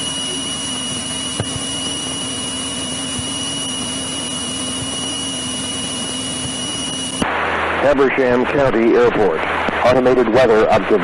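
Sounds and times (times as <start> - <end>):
aircraft engine droning: 0.0 - 11.0
high-pitched whine: 0.0 - 11.0.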